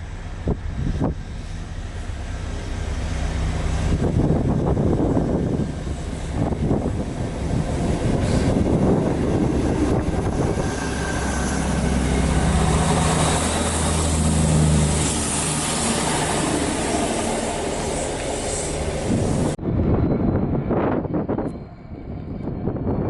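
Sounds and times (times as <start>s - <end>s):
train wheels on rail: 0.0s - 19.6s
diesel engine drone: 0.0s - 23.0s.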